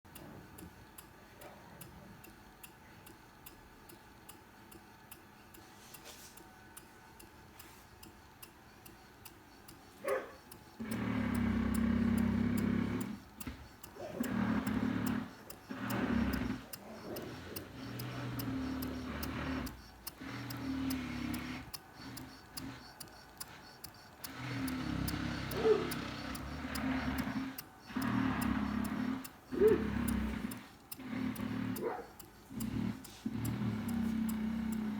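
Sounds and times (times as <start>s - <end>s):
steam engine ticking: 0.1s - 34.9s.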